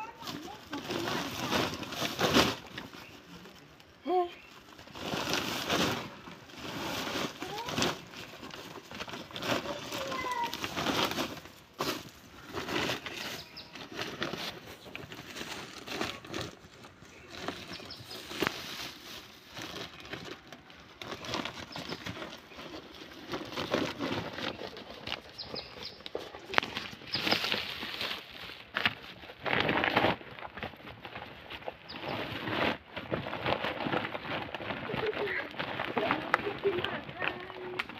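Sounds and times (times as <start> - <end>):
plastic sacks rustling: 0.0 - 37.9
wet soil scraping: 4.9 - 37.9.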